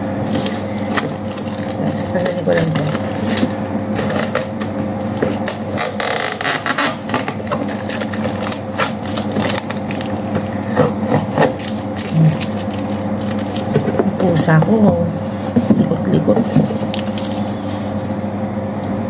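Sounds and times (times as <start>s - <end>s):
packaging rustling and crinkling: 0.2s - 14.4s, 16.4s - 18.2s.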